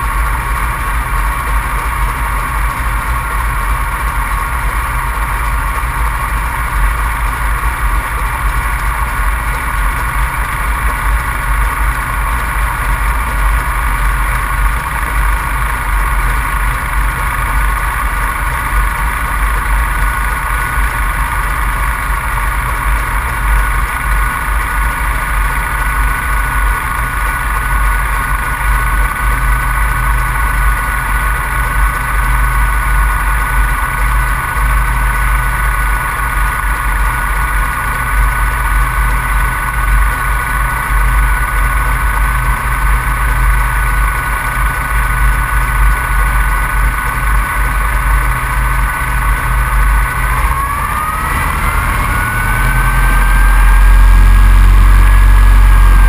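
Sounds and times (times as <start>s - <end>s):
propeller plane engine: 0.0s - 56.0s.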